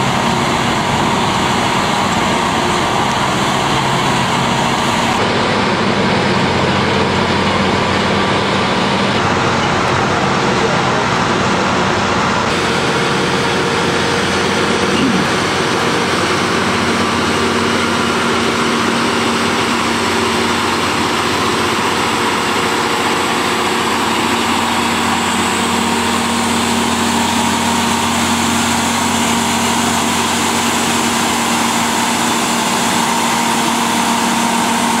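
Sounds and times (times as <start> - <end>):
locomotive engine drone: 0.0 - 35.0.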